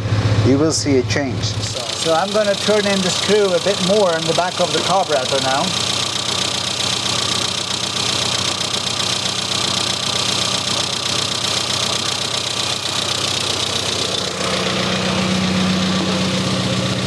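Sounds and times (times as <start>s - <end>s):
car engine idling: 0.1s - 17.0s.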